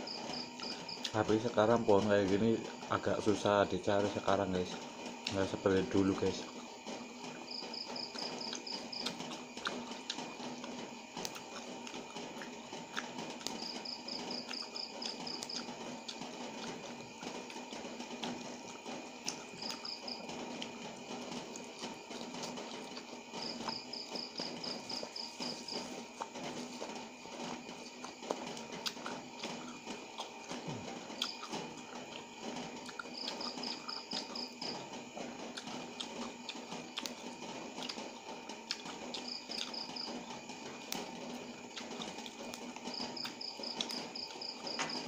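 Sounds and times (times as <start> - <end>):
cricket chirping: 0.0 - 4.7, 5.3 - 45.0
steady hum: 0.0 - 45.0.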